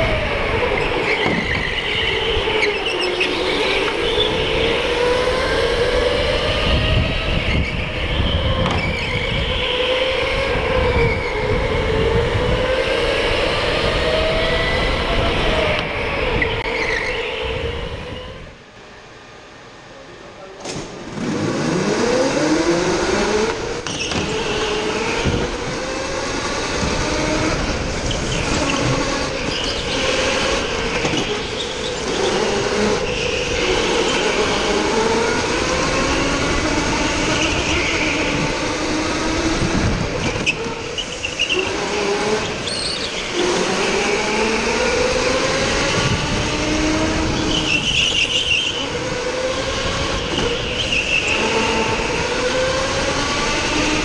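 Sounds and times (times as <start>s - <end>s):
go-kart engines racing: 0.0s - 18.7s, 19.4s - 54.0s.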